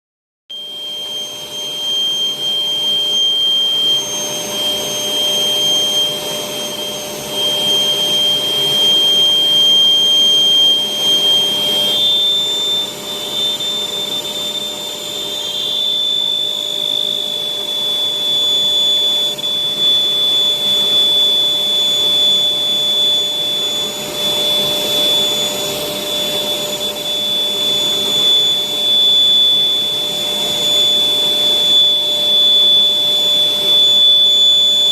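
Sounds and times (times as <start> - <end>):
electric air blower whining: 0.5 - 34.9.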